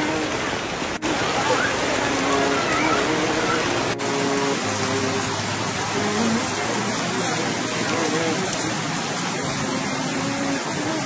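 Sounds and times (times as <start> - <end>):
faint voices: 0.0 - 11.0
rain on plastic sheeting: 0.0 - 11.0.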